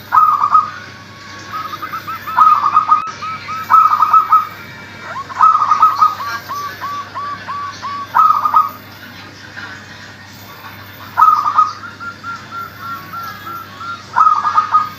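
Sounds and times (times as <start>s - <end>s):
dove cooing song: 0.0s - 9.1s, 10.8s - 14.9s.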